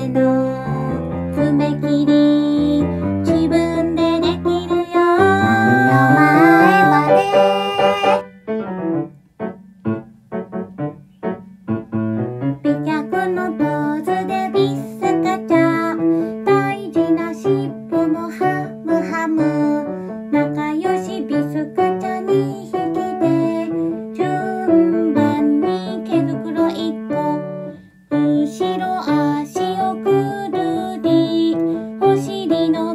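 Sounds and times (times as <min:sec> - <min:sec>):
woman singing: 0:00.0 - 0:08.2, 0:12.6 - 0:32.9
piano accompaniment: 0:00.0 - 0:32.9.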